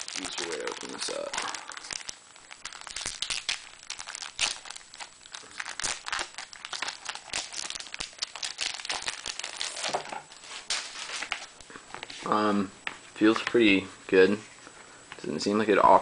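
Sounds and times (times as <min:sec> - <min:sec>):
plastic wrapping crinkling: 0:00.0 - 0:13.8.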